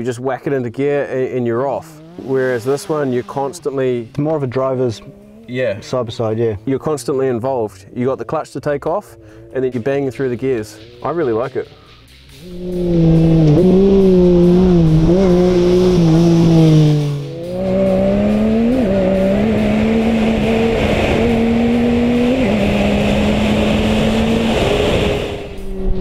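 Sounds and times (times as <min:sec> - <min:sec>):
engine running hard: 0:01.2 - 0:06.4, 0:08.0 - 0:26.0.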